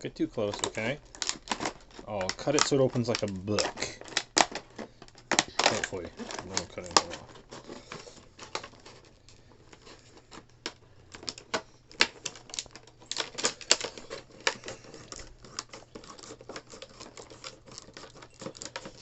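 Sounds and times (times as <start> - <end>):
packaging being cut open: 0.4 - 19.0.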